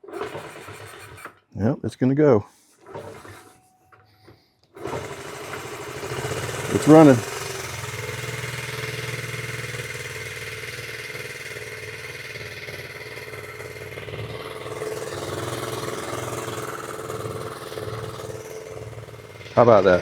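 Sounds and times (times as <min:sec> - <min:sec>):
small motorbike engine running: 0:00.0 - 0:01.4, 0:02.8 - 0:03.6, 0:04.7 - 0:20.0.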